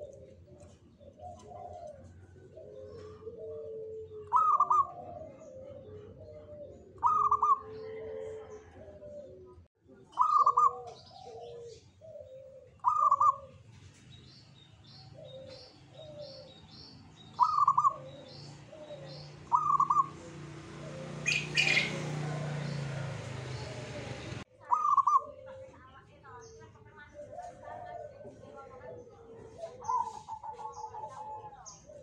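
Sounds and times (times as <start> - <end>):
dove cooing: 0.0 - 13.8, 14.8 - 25.8, 26.4 - 32.0.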